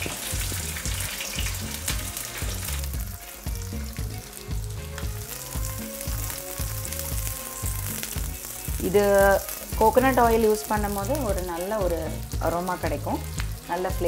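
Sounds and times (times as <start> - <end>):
low bass beat: 0.0 - 13.6
shallots sizzling in oil: 0.0 - 14.0.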